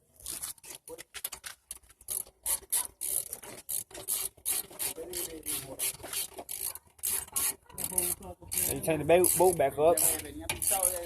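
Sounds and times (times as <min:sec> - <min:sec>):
ratchet wrench rasping: 0:02.0 - 0:11.0.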